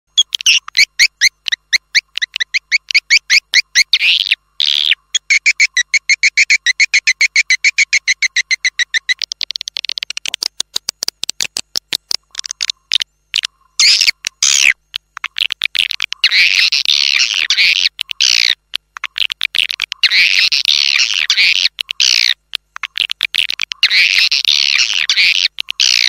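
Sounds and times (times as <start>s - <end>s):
rasping buzzy bird calls: 0.1s - 10.6s, 12.2s - 26.0s.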